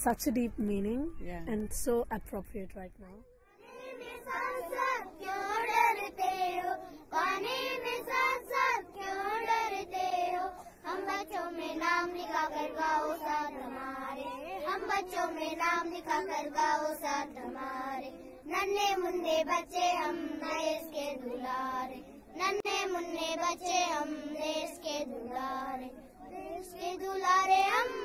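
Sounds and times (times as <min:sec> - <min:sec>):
children singing: 0:03.5 - 0:28.0.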